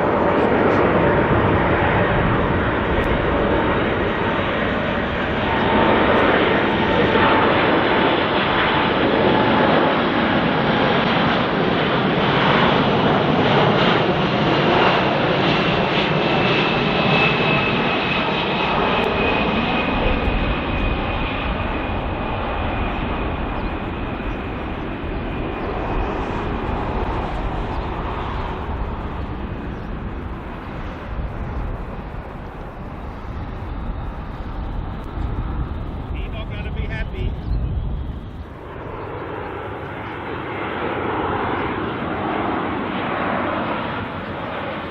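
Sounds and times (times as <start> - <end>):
high engine whine: 0.0 - 44.9
jet engines landing: 0.0 - 44.9.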